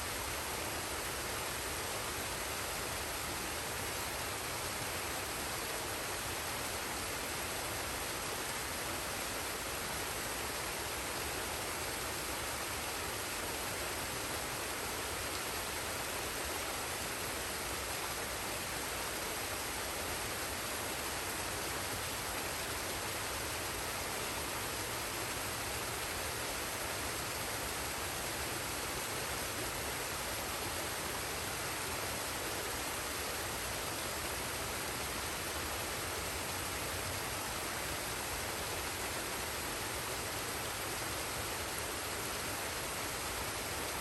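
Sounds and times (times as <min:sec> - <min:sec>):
waterfall and stream rushing: 0:00.0 - 0:44.0.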